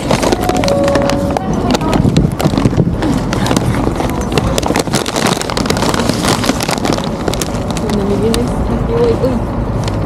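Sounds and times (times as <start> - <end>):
plastic and paper bags rustling: 0.0 - 10.0
steady low rumble: 0.0 - 10.0.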